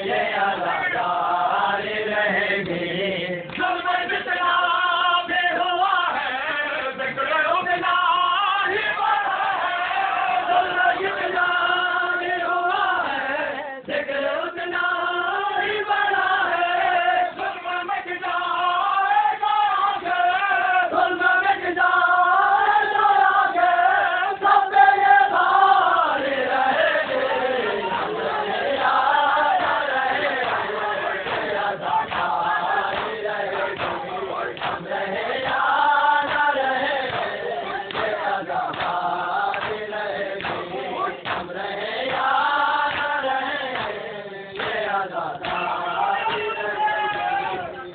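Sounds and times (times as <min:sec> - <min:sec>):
crowd of men chanting: 0:00.0 - 0:47.9.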